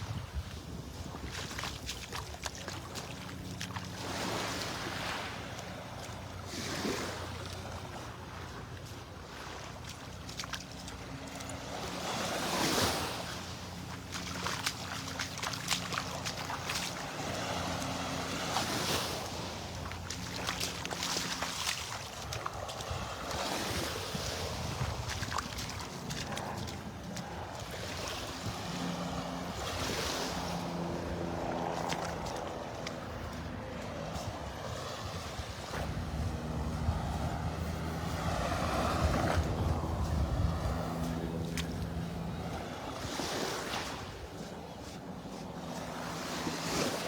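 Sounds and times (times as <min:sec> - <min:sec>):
wind buffeting microphone: 0:00.0 - 0:08.3, 0:11.0 - 0:47.0
low motor hum: 0:00.0 - 0:47.0
surf washing onto beach: 0:00.0 - 0:47.0.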